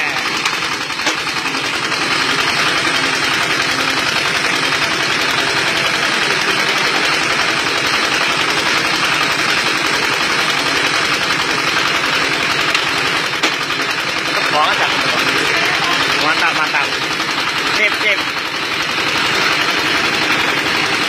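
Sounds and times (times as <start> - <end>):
machine mechanical rattle: 0.0 - 21.0.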